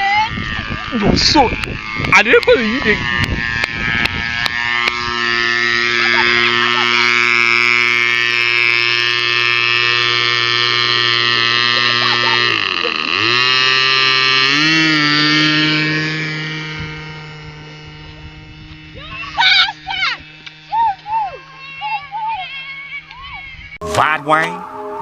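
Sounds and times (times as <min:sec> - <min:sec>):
model airplane engine running: 0:00.0 - 0:23.8.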